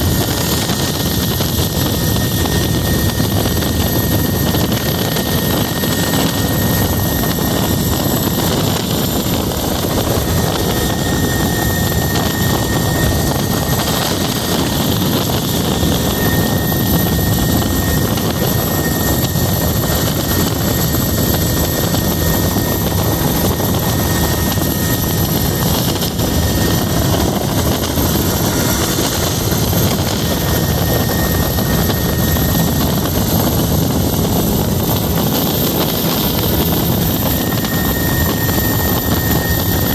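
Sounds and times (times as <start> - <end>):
helicopter rotor and engine: 0.0 - 39.9
thin high whine: 0.0 - 39.9.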